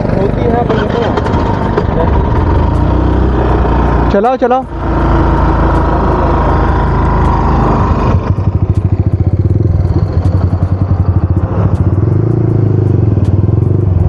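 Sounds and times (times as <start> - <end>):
motorcycle engine idling: 0.0 - 14.0
rough engine nearby: 0.0 - 14.0.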